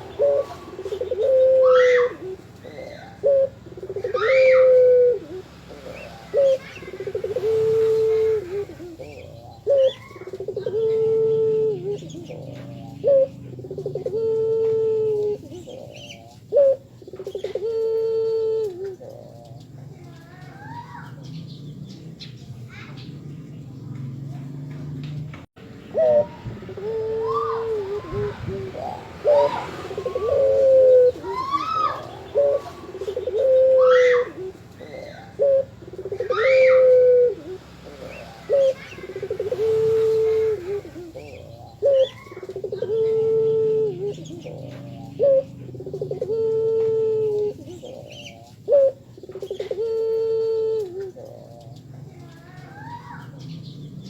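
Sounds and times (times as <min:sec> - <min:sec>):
dove cooing: 0:00.0 - 0:54.0
small birds chirping: 0:00.0 - 0:54.0.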